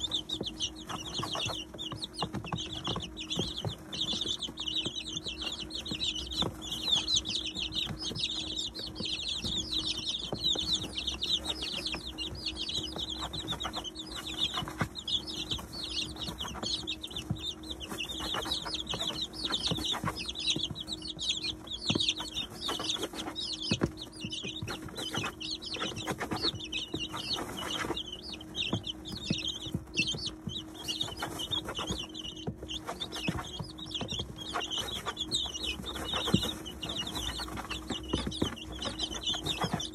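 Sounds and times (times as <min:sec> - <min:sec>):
beaks pecking: 0:00.0 - 0:39.9
chicks peeping: 0:00.0 - 0:39.9.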